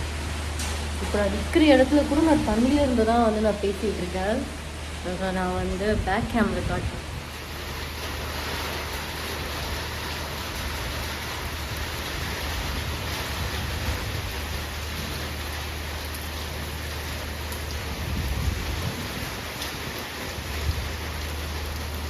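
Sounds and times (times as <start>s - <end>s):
heavy rain hiss: 0.0s - 22.0s.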